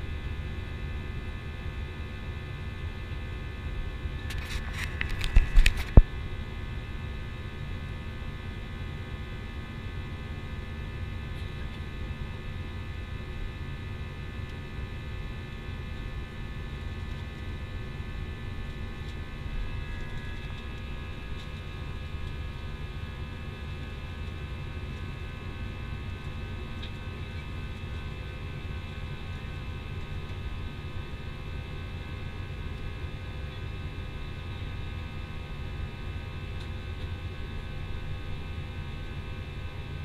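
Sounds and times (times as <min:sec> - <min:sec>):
aircraft cabin low rumble: 0:00.0 - 0:40.0
jet engine whine: 0:00.0 - 0:40.0.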